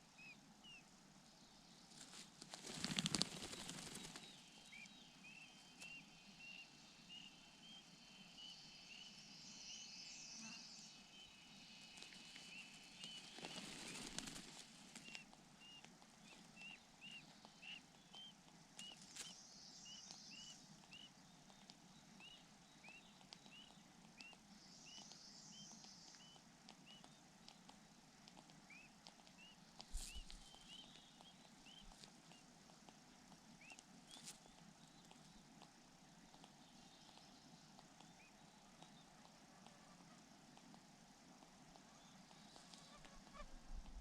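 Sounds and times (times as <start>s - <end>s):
bird chirping faintly: 0.0s - 44.0s.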